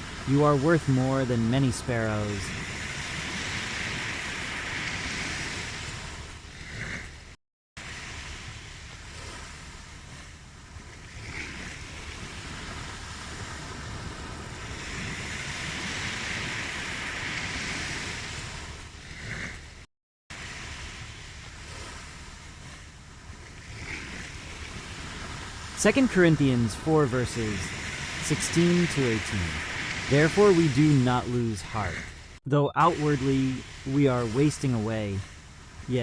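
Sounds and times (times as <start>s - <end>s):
ocean surf washing: 0.0s - 36.0s.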